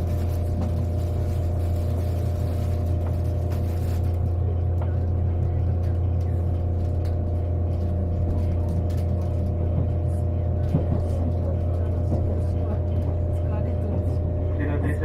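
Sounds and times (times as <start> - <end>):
train cabin low hum: 0.0 - 15.0.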